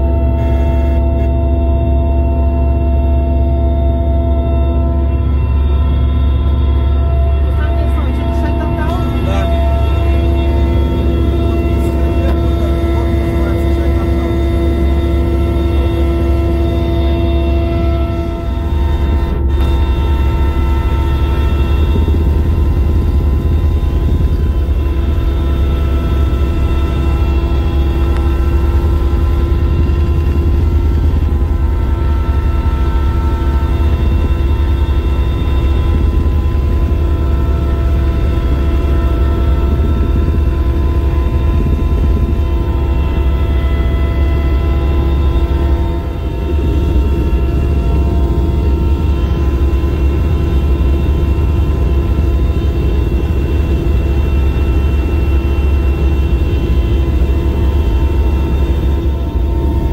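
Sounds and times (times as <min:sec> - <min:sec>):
aircraft cabin rumble: 0:00.0 - 0:59.9
steady whining tones: 0:00.0 - 0:59.9.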